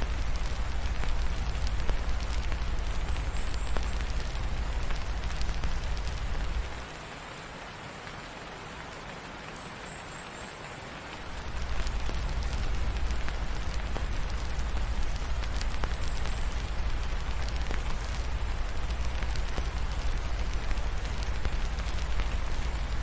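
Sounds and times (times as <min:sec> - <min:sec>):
fireplace crackles: 0:00.0 - 0:07.0, 0:11.0 - 0:23.0
steady rain: 0:00.0 - 0:23.0.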